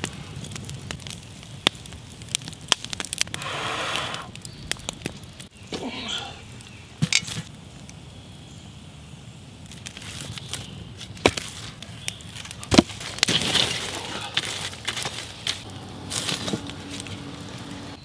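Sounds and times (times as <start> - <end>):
embers crackling and scraping: 0.0 - 18.0.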